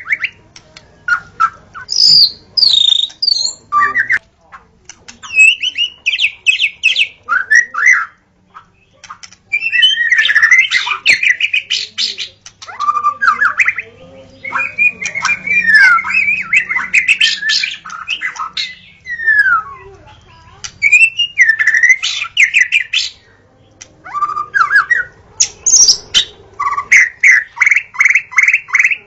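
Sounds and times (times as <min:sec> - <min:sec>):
bird singing whistles and chatter: 0:00.0 - 0:04.2, 0:05.1 - 0:29.0.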